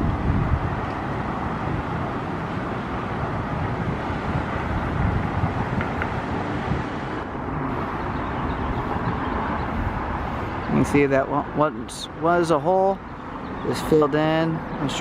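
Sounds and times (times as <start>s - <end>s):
distant road traffic rumble: 0.0s - 15.0s
wind buffeting microphone: 0.0s - 15.0s.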